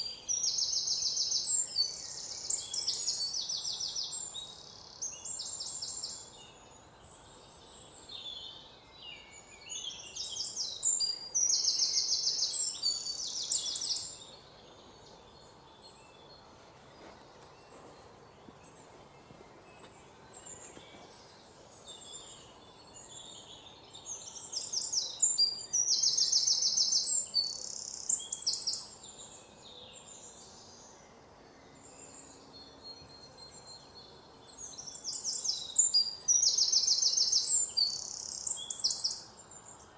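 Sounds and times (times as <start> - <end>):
songbirds singing trilled phrases: 0.0 - 39.9.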